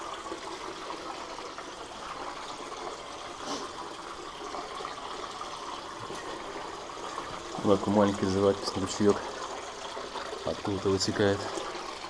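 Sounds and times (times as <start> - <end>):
stream trickling over rock: 0.0 - 12.0.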